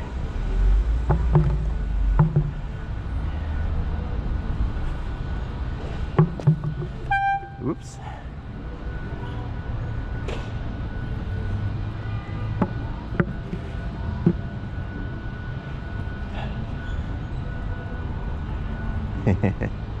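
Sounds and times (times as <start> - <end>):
street traffic rumble: 0.0 - 20.0
wind: 0.0 - 20.0.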